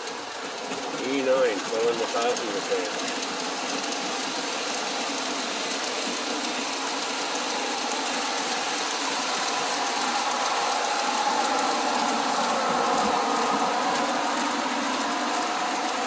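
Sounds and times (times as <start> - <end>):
model train motor hum: 0.0 - 16.0
model train wheel noise: 0.0 - 16.0.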